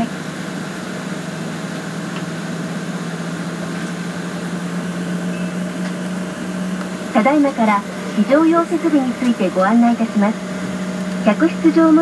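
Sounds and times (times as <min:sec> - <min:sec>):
low steady drone: 0:00.0 - 0:12.0.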